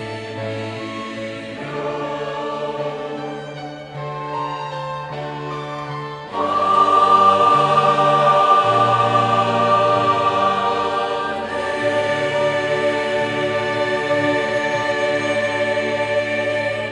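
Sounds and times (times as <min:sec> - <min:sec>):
church choir singing: 0:00.0 - 0:16.9
violin ensemble: 0:00.0 - 0:16.9.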